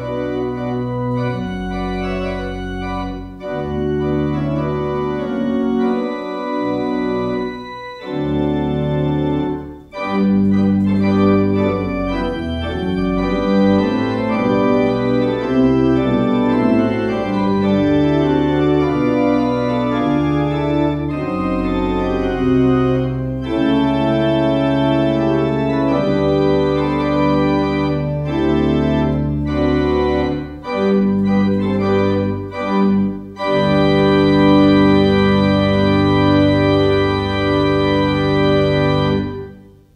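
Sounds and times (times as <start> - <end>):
organ playing held chords: 0.0 - 39.9.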